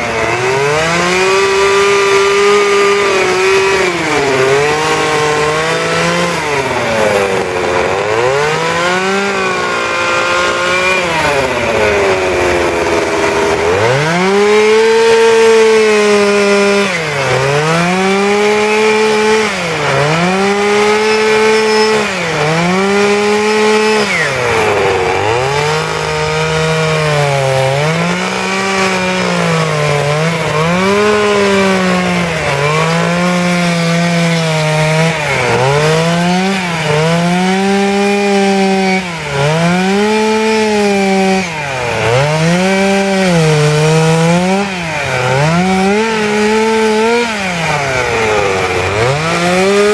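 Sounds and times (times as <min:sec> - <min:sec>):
chainsaw carving wood: 0:00.0 - 0:49.9.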